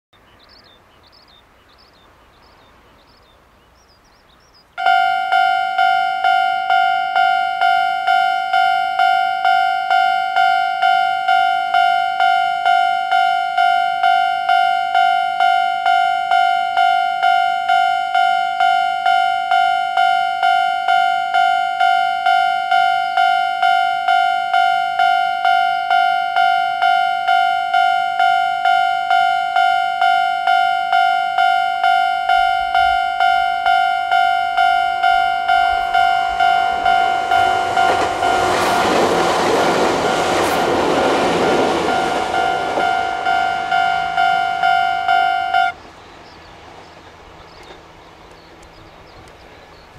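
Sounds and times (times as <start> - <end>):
electric train passing: 1.3 - 49.9
level crossing bell clanging: 4.8 - 45.8.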